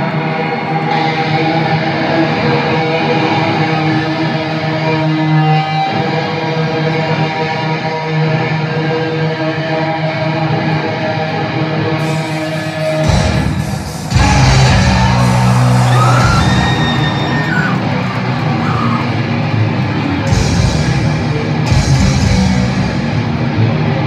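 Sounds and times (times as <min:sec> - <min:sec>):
amplified rock music: 0:00.0 - 0:24.0
electric guitar chords: 0:00.0 - 0:24.0.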